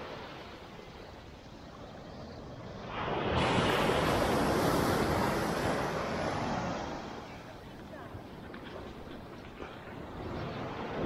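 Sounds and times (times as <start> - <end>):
surf washing onto sandy beach: 0.0 - 11.0.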